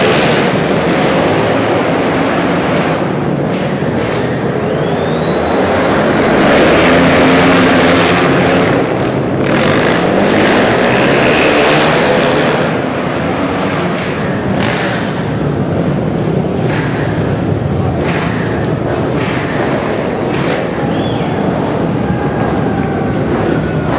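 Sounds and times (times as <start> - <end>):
racing motorcycle engines revving: 0.0 - 23.9.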